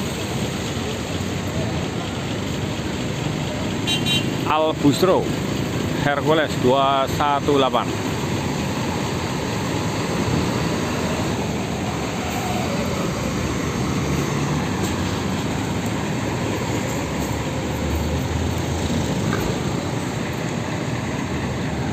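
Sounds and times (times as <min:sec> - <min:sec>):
bus driving past: 0:00.0 - 0:21.9.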